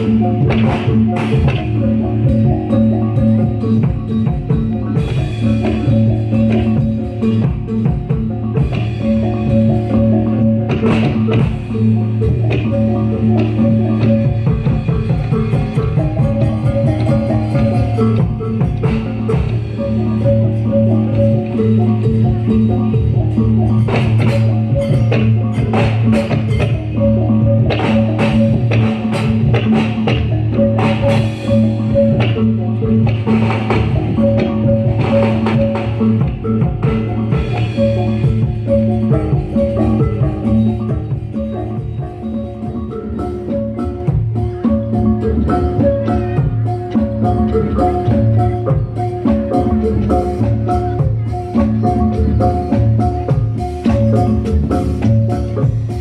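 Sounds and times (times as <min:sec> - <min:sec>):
drums beating a steady rhythm: 0:00.0 - 0:56.0.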